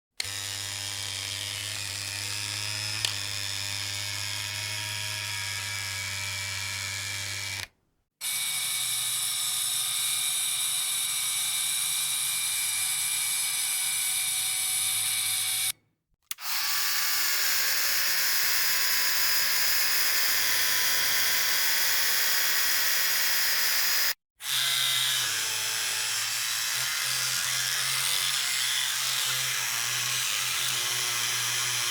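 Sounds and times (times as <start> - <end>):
electric hair trimmer buzzing: 0.2 - 15.7, 16.3 - 31.9.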